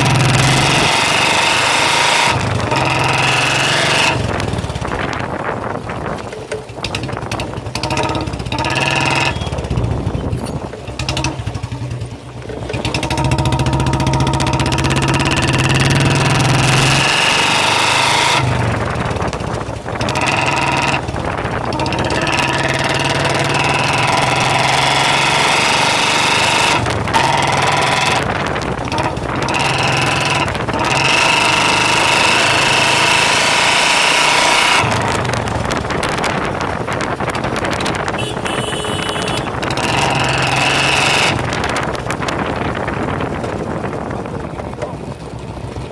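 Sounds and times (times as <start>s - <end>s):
motorcycle engine exhaust note: 0.0s - 45.9s.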